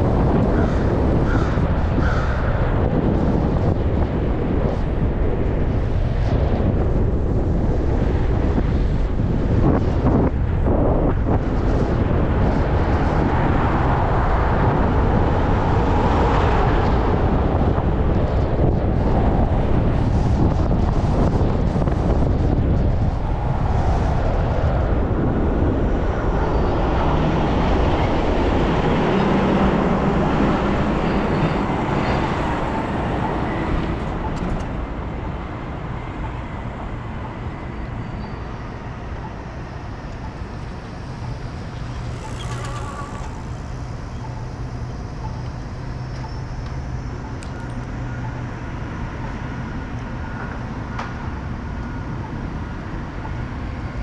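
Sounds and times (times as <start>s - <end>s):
wind rushing: 0.0s - 46.0s
road traffic: 0.0s - 54.0s.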